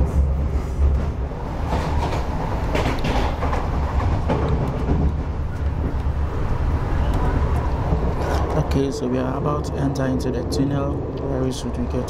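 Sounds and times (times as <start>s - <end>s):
train clacks: 0.0s - 12.0s
train wheels rumbling on track: 0.0s - 12.0s.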